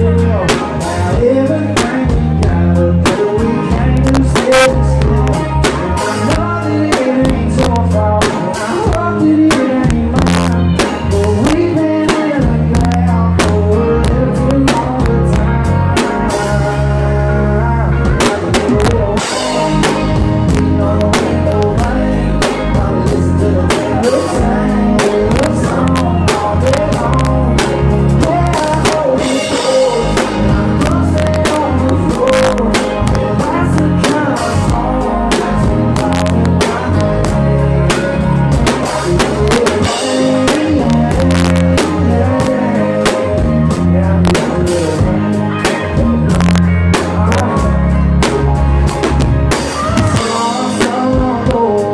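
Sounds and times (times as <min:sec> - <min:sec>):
drum kit beat: 0:00.0 - 0:16.8, 0:17.9 - 0:51.9
bass guitar: 0:00.0 - 0:51.9
man singing: 0:00.0 - 0:51.9.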